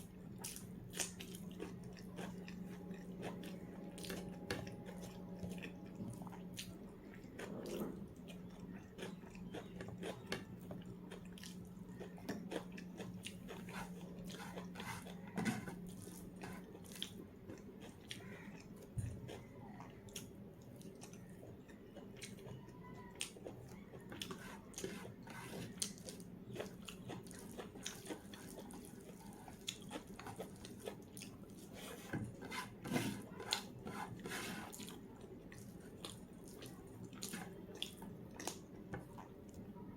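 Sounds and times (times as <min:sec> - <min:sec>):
chewing and crunching food: 0:00.0 - 0:39.9
low steady hum: 0:00.0 - 0:39.9.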